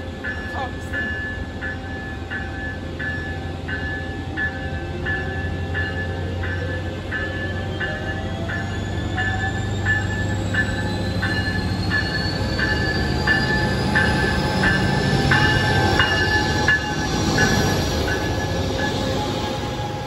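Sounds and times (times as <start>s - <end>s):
locomotive bell ringing: 0.0s - 20.0s
locomotive engine rumble: 0.0s - 20.0s.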